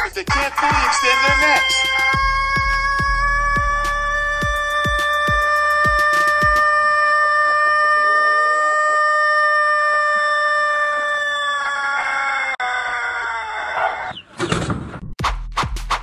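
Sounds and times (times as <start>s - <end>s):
rooster crowing: 0.4s - 14.2s.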